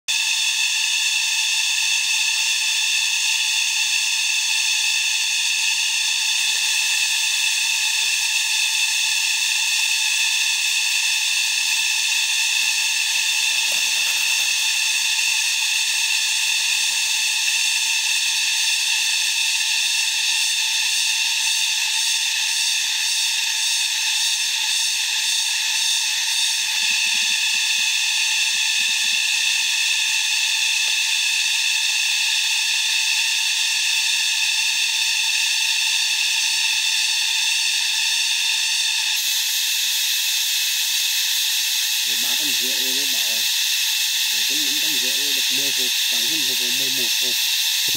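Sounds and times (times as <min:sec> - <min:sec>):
cicadas buzzing: 0:00.1 - 0:47.9.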